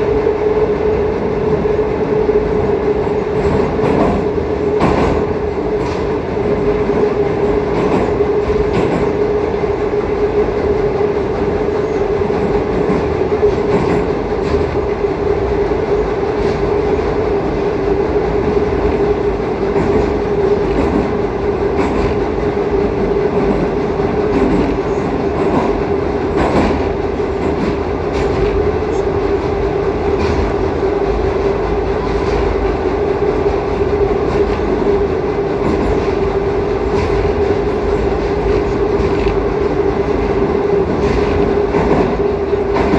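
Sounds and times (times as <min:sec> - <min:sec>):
steady train whine: 0:00.0 - 0:42.9
train wheels rumbling on rail: 0:00.0 - 0:42.9.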